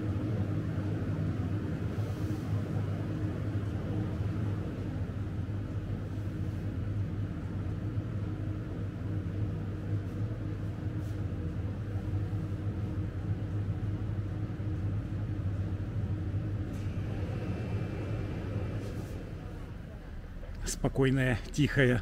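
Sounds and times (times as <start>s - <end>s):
drinks cooler electric hum: 0.0s - 22.0s.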